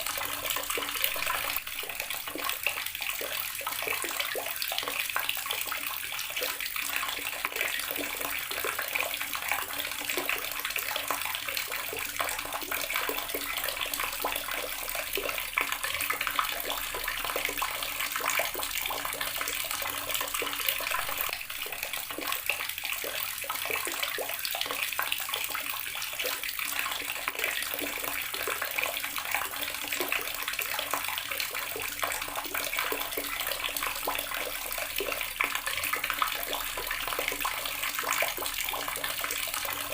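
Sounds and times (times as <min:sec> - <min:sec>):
small water splashes: 0:00.0 - 0:39.9
water running from tap: 0:00.0 - 0:39.9.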